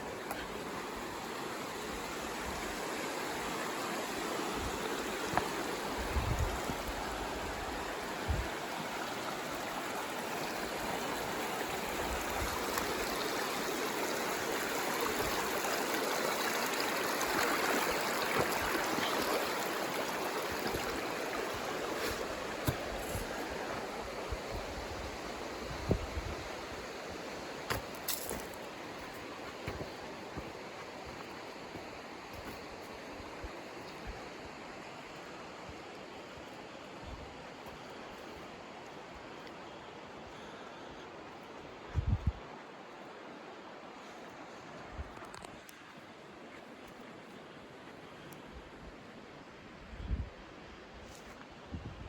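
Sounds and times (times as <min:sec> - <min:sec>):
creek water rushing: 0:00.0 - 0:49.8.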